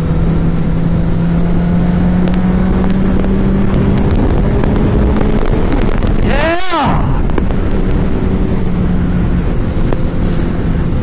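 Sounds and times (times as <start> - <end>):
motorcycle engine running: 0.0 - 11.0
wind rumble on microphone: 0.0 - 11.0.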